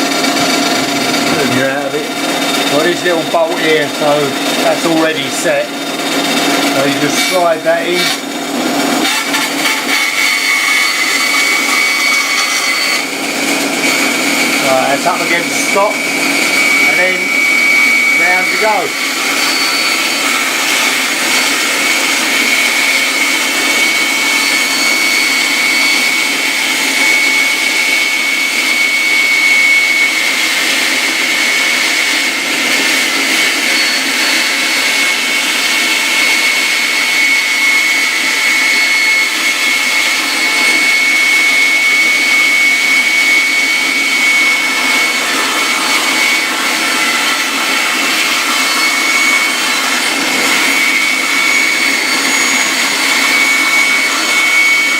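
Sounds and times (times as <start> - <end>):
bandsaw cutting wood: 0.0 - 54.9.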